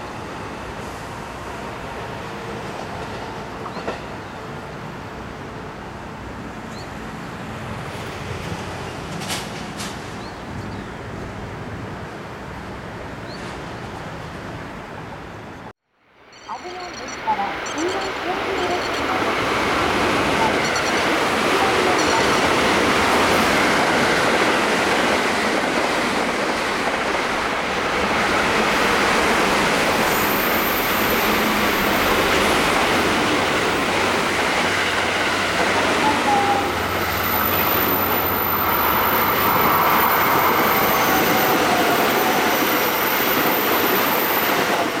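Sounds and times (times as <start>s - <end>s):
train passing at speed: 0.0s - 15.7s, 16.4s - 45.0s.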